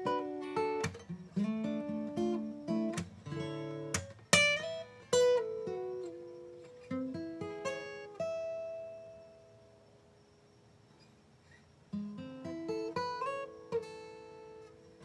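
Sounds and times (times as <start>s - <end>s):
acoustic guitar playing: 0.0s - 9.8s, 11.9s - 15.0s.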